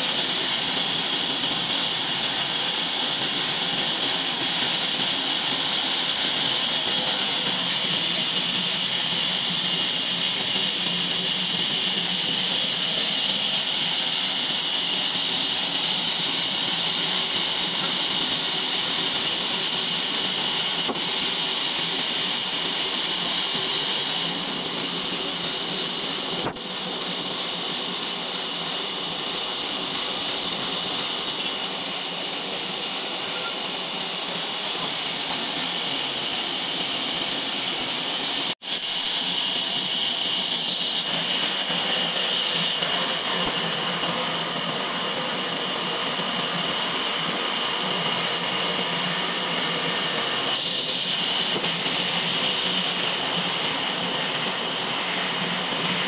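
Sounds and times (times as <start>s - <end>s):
band saw running with hiss: 0.0s - 56.0s.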